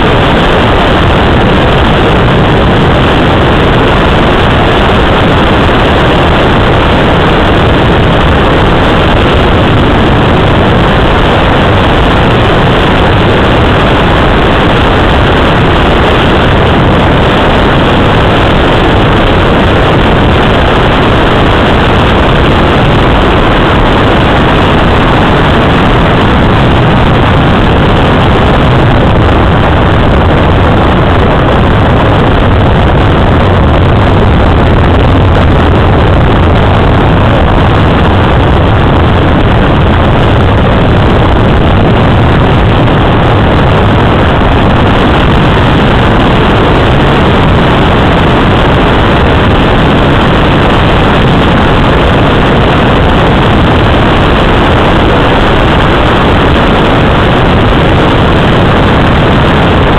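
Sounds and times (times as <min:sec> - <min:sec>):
low drone: 0:00.0 - 0:59.9
rush of air around glider: 0:00.0 - 0:59.9.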